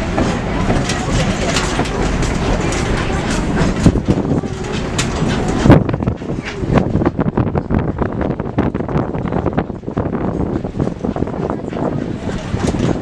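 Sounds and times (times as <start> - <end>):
train rumbling on track: 0.0 - 13.0
train wheels clicking and knocking: 0.0 - 13.0.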